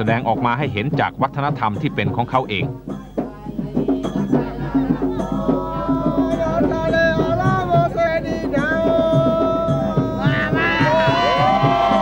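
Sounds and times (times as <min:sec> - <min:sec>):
hand drums beating: 0:00.0 - 0:12.0
voices singing a wavering melody: 0:01.9 - 0:12.0.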